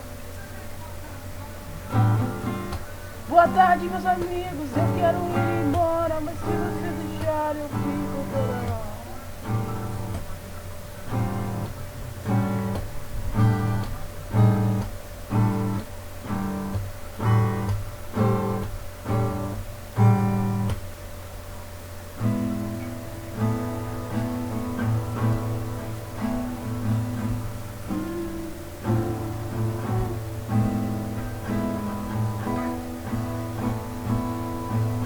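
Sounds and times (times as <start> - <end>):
acoustic guitar strummed chords: 0.0 - 35.0.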